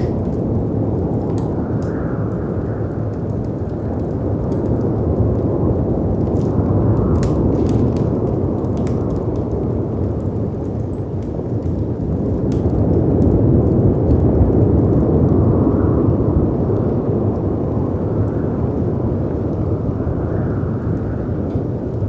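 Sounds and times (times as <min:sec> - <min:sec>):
fireplace crackling: 0:00.0 - 0:22.0
howling wind: 0:00.0 - 0:22.0.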